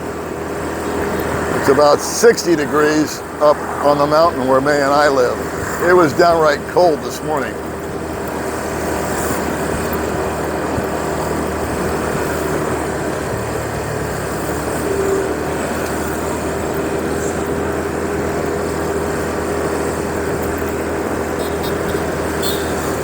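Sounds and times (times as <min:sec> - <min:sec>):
motorbike engine cruising: 0:00.0 - 0:23.0
road noise: 0:00.0 - 0:23.0
wind: 0:00.0 - 0:23.0.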